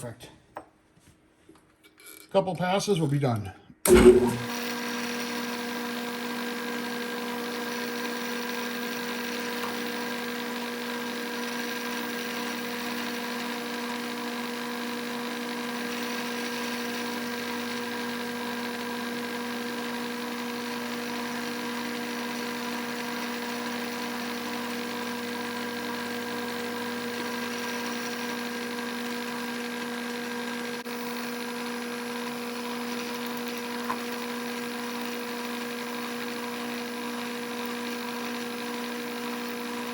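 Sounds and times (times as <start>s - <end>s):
milling machine humming: 3.9s - 39.9s.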